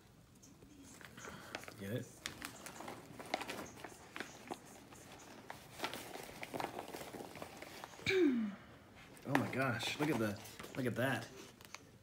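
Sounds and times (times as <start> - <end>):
paper bag rustling and crinkling: 1.0 - 8.1, 9.0 - 11.8.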